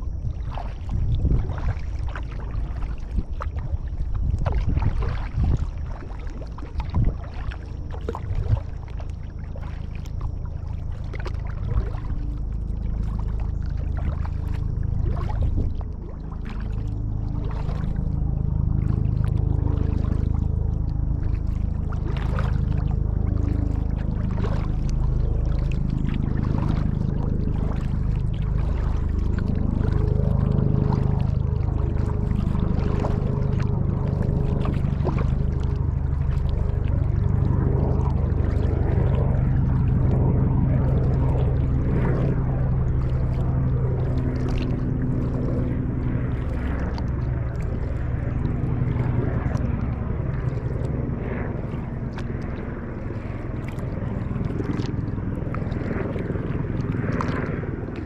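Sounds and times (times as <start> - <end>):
steady low hum: 0.0 - 58.0
water sloshing around a kayak: 0.0 - 58.0.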